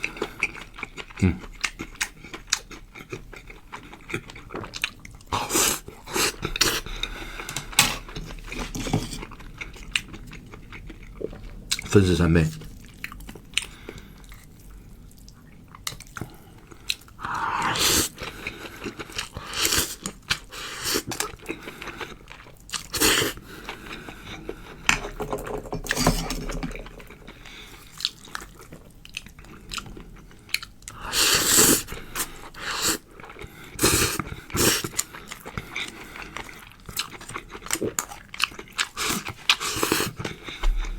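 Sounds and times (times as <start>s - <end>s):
person chewing crunchy food: 0.0s - 11.8s, 12.8s - 40.9s.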